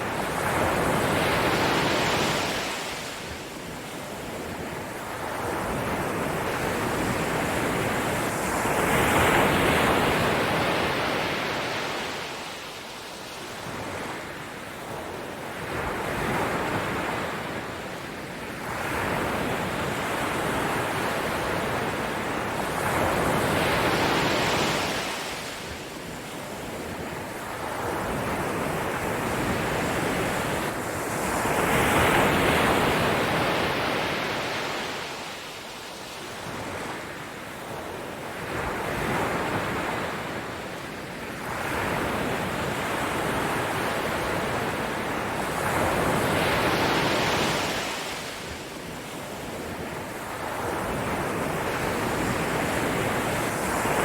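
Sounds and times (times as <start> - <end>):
ocean waves washing ashore: 0.0 - 54.0.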